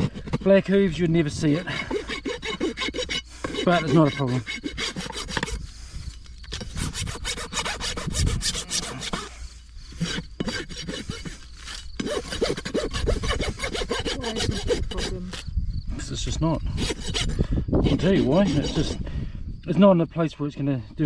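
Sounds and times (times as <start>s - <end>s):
rasp filing a hoof: 0.0s - 15.5s, 16.6s - 19.0s.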